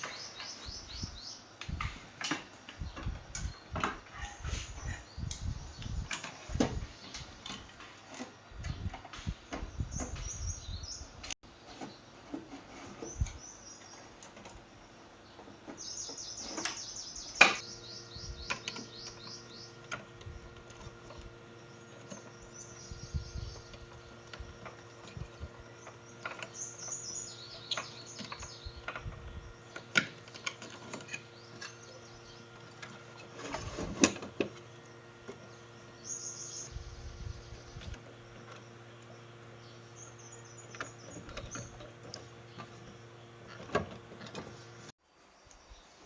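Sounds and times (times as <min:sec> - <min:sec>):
steady low hum: 0:00.0 - 0:45.0
birds chirping: 0:00.0 - 0:46.0.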